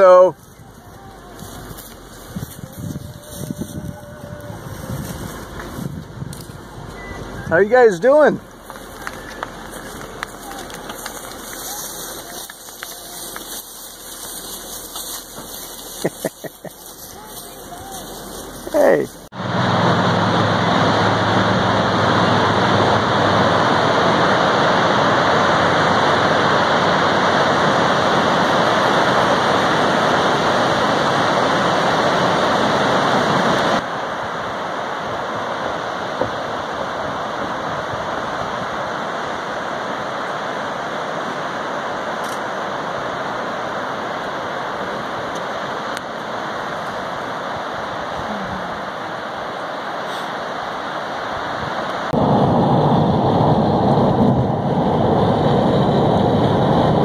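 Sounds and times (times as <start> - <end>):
ocean surf on rocky shore: 0.0 - 57.0.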